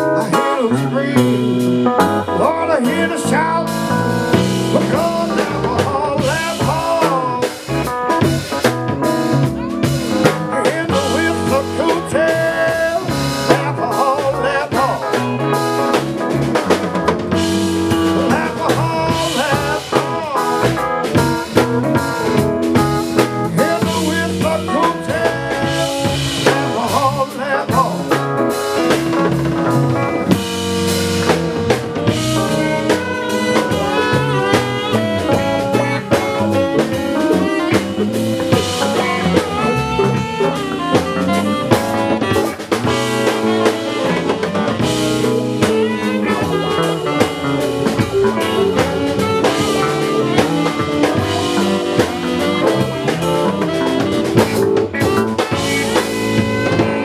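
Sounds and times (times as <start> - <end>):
band playing instrumental: 0.0 - 57.0
drum kit beat: 0.0 - 57.0.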